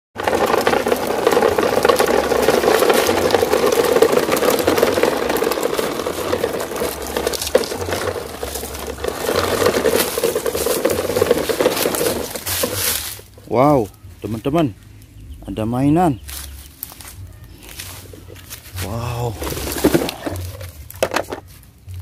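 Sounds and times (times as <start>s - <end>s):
plastic wheels rattling over concrete: 0.2s - 14.4s, 16.2s - 22.0s.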